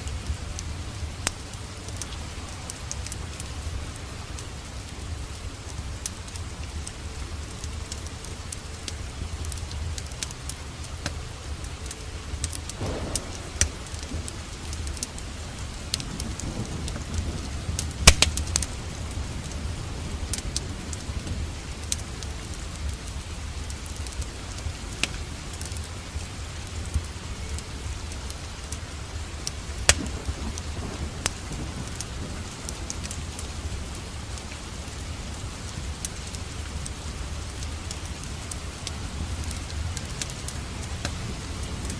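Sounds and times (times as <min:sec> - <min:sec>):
steady rain: 0:00.0 - 0:41.9
wood fire crackling and popping: 0:00.0 - 0:41.9.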